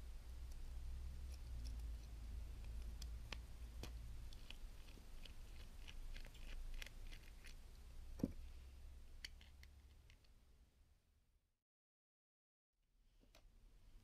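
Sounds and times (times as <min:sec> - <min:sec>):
low steady hum: 0:00.0 - 0:11.3.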